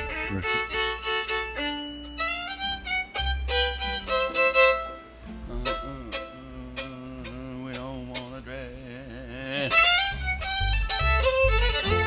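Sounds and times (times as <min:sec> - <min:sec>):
fiddle melody: 0:00.0 - 0:12.0
plucked strings: 0:00.0 - 0:12.0.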